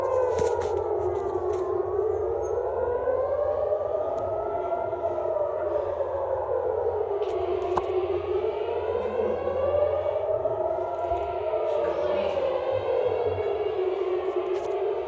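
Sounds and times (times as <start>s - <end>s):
air raid siren wailing: 0.0s - 15.0s.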